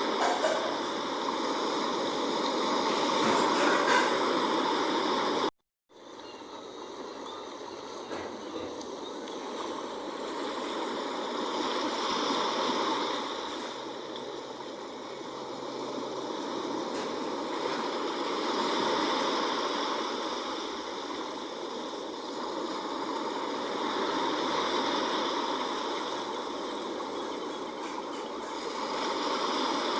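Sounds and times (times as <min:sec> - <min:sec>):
sea waves washing: 0:00.0 - 0:29.9.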